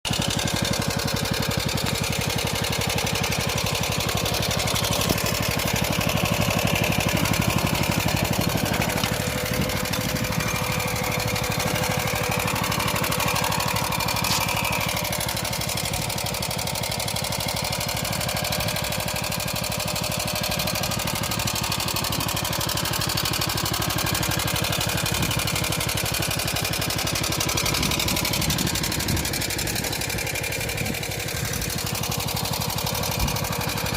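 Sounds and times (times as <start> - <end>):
tractor engine under load: 0.0 - 33.9.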